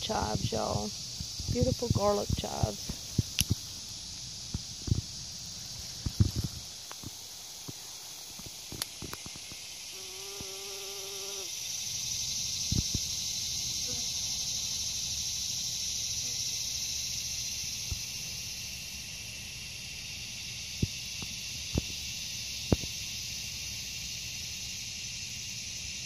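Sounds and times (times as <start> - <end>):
insect chorus: 0.0 - 26.0.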